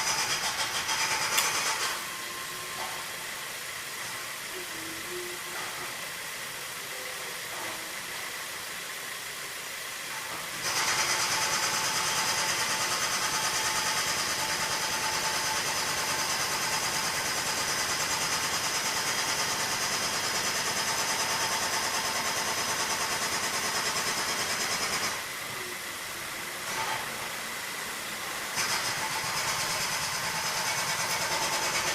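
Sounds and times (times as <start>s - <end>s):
air conditioning compressor whine: 0.0s - 31.9s.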